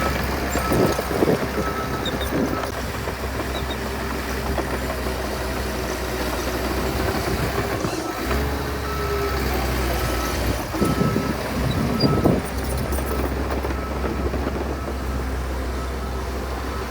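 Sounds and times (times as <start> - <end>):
diesel engine droning: 0.0 - 16.9.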